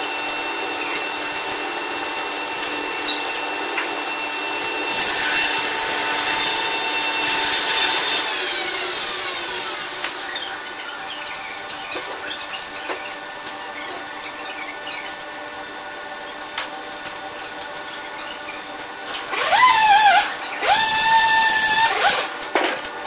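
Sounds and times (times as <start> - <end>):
saw whining cutting log: 0.0 - 15.2, 17.4 - 22.5
steady saw whine: 0.0 - 22.6
saw mill humming: 0.0 - 23.0.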